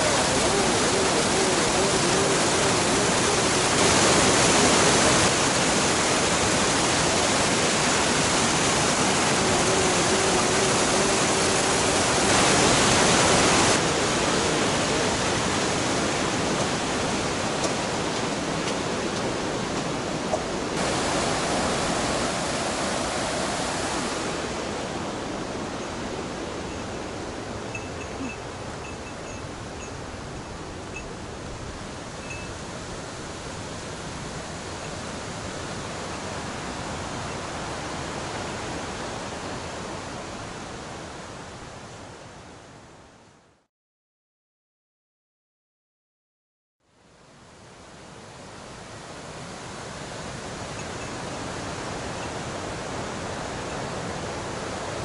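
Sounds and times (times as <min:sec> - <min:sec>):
whitewater rushing in stream: 0:00.0 - 0:42.8, 0:47.3 - 0:55.0.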